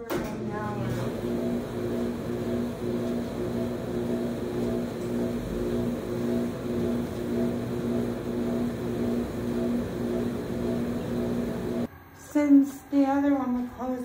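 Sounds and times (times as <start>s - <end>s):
clothes dryer running: 0.0s - 11.9s.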